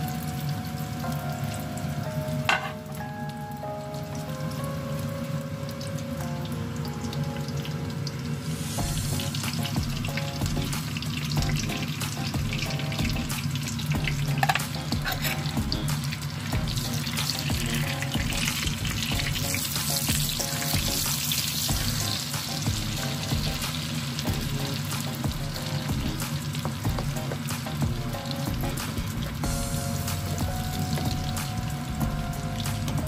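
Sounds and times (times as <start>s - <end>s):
omelet sizzling in oil: 3.6s - 33.0s.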